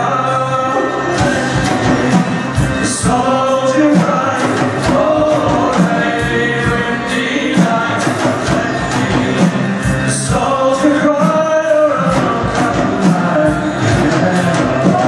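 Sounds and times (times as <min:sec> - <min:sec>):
folk-rock band playing: 0:00.0 - 0:15.0
voices singing: 0:00.0 - 0:15.0.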